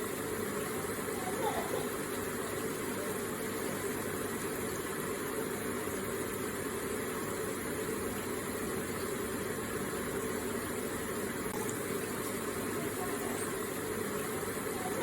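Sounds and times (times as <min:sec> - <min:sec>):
water running and splashing: 0:00.0 - 0:15.0.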